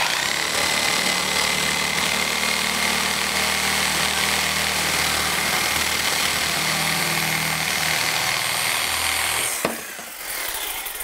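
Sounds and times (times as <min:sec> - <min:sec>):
reciprocating saw cutting pipe: 0:00.0 - 0:11.0.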